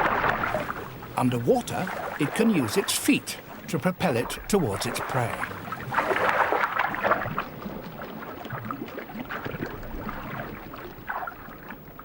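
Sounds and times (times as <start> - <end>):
underwater bubbling and gurgling: 0.0 - 12.0.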